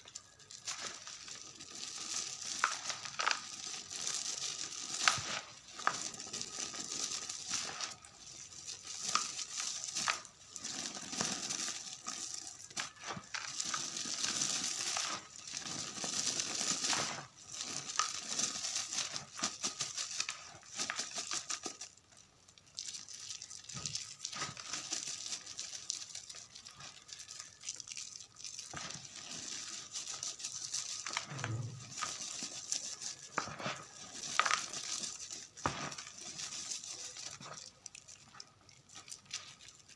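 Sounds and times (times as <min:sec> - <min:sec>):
chalk crunching and crinkling: 0:00.0 - 0:39.9.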